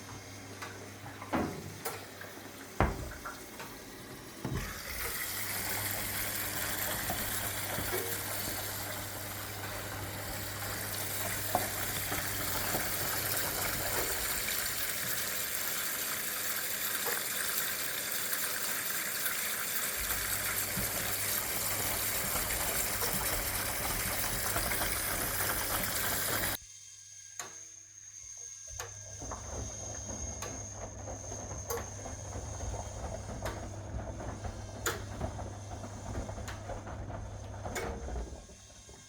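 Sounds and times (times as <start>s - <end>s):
washing machine water rushing: 0.0s - 26.6s, 28.7s - 39.0s.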